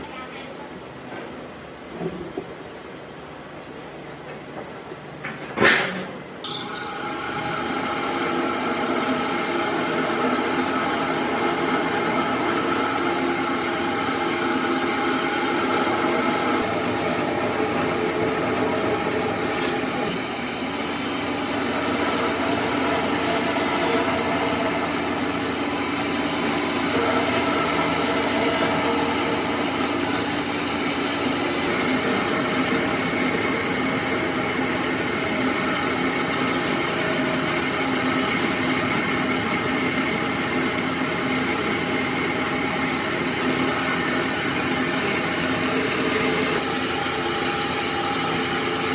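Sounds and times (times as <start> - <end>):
power tool motor whining: 6.6 - 48.9.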